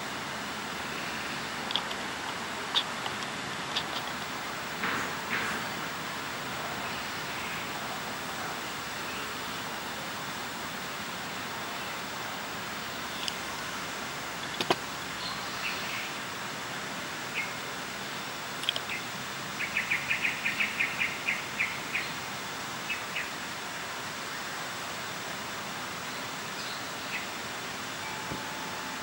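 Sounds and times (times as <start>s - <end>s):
outdoor hiss: 0.0s - 29.0s.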